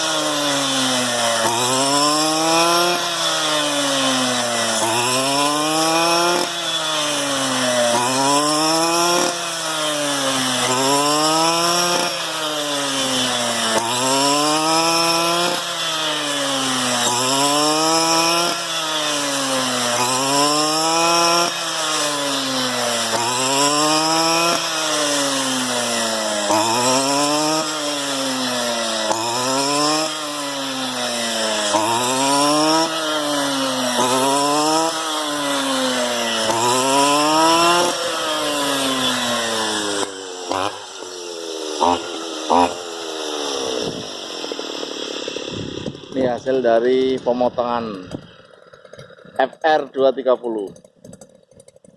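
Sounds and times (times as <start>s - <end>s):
brush cutter engine running hard: 0.0s - 51.9s.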